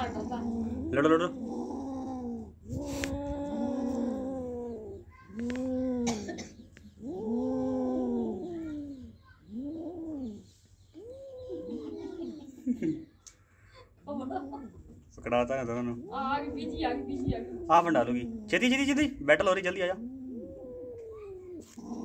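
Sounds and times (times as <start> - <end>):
kittens yowling and growling: 0.0 - 12.8, 14.1 - 22.0.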